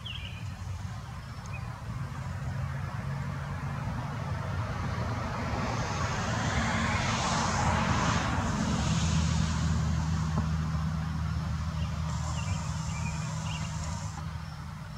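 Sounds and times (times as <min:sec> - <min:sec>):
passing vehicle engine: 0:00.0 - 0:14.9
steady low hum: 0:00.0 - 0:14.9.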